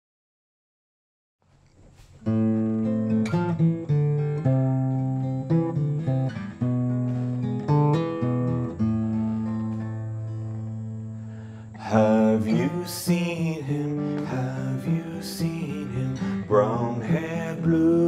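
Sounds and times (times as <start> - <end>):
acoustic guitar played slowly: 1.8 - 18.0.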